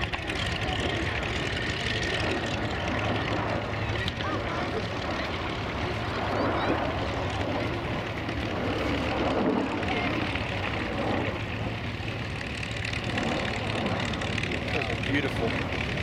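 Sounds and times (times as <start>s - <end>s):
distant jet engine: 0.0s - 16.0s
voices in background: 0.0s - 16.0s.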